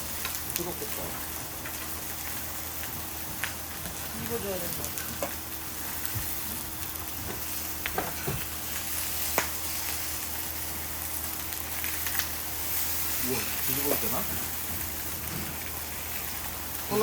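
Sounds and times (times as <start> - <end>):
meat sizzling on a griddle: 0.0 - 17.0.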